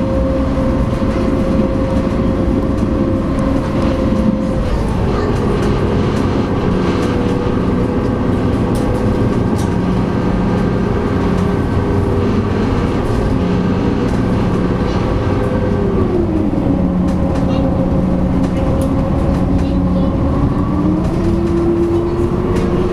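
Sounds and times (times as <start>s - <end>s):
ferry engines humming: 0.0s - 22.9s.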